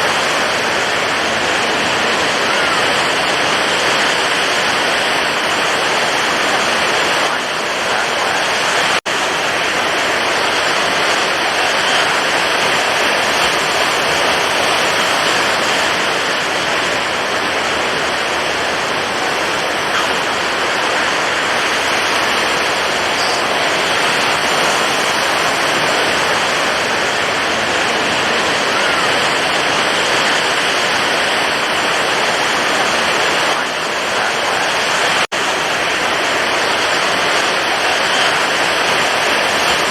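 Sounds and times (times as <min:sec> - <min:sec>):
stormy ocean surf: 0:00.0 - 0:39.9.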